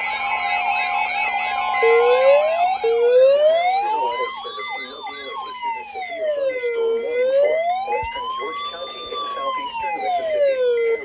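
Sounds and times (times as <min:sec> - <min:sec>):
siren yelping sweeps: 0:00.0 - 0:11.0
sirens wailing: 0:00.0 - 0:11.0.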